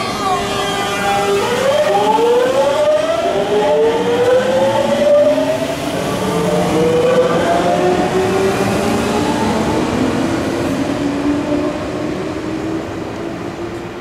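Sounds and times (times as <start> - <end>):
electric train inverter whining: 0.0 - 13.9.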